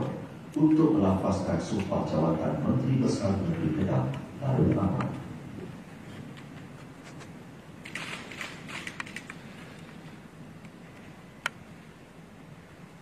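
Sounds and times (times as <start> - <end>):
quiet room noise: 0.0 - 13.0.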